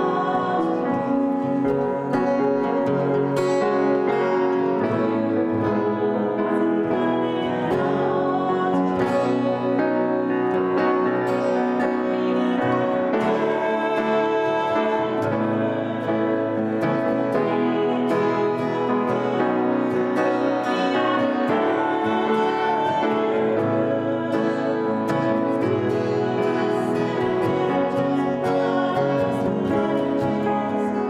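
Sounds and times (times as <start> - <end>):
acoustic guitar: 0.0 - 31.0
grand piano: 0.0 - 31.0.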